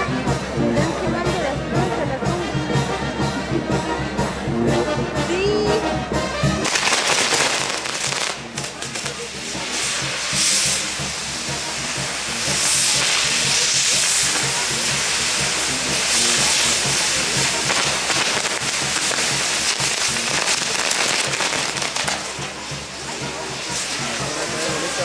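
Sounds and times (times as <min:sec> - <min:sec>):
fireworks crackling and hissing: 0:00.0 - 0:25.0.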